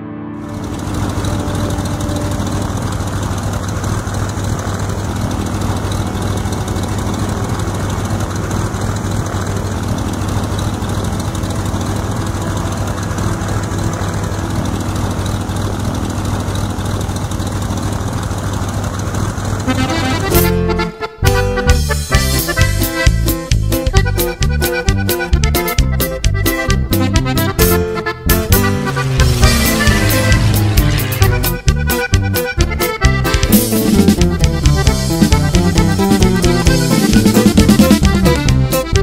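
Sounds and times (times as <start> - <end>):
engine idling: 0.4 - 39.0.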